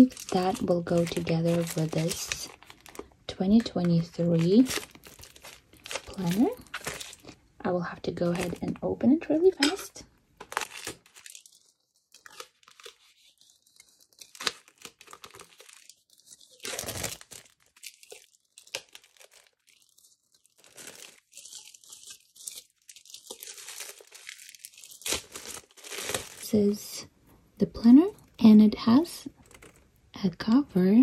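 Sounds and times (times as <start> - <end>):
plastic shrink wrap tearing: 0.0 - 7.4, 8.2 - 26.6, 29.2 - 30.0.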